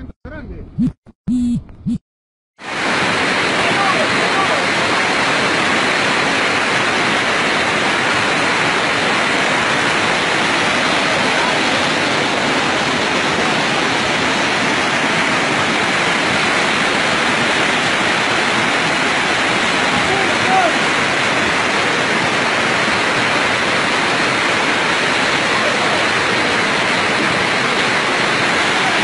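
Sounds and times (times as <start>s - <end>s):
floodwater rushing: 2.6s - 29.0s.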